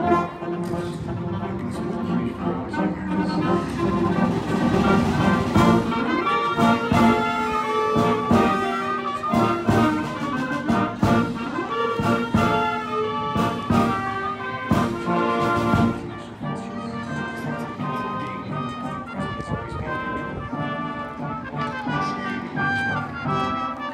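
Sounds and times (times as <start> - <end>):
wind band playing a fanfare: 0.0 - 23.9.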